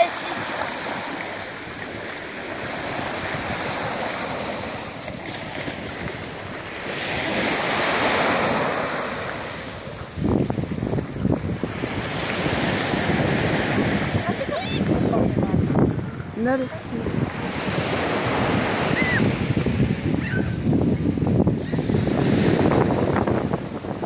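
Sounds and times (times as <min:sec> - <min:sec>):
small waves breaking on shore: 0:00.0 - 0:24.0
wind buffeting microphone: 0:01.7 - 0:24.0.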